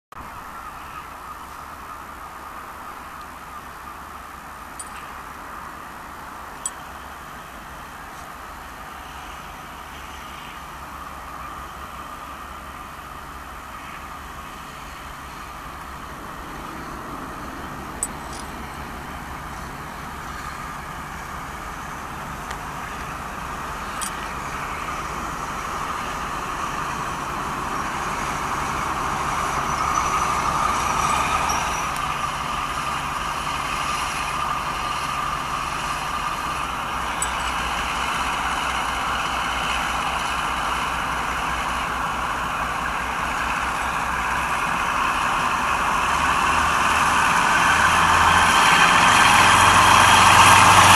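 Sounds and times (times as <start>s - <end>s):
diesel locomotive engine: 0.1s - 50.9s.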